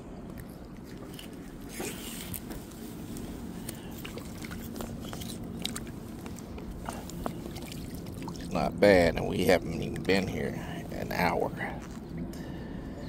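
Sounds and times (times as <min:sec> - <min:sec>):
low outdoor background: 0:00.0 - 0:13.0.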